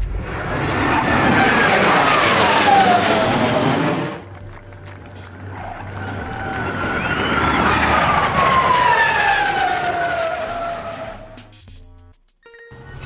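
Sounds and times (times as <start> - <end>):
falling jet whine: 0.0 - 11.5
jet aircraft flying past: 0.0 - 11.5.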